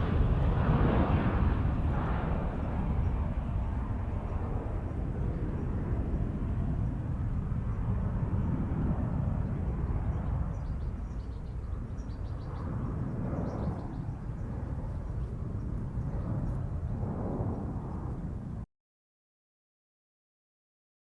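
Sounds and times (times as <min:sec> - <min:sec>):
jet engines low rumble: 0:00.0 - 0:18.7.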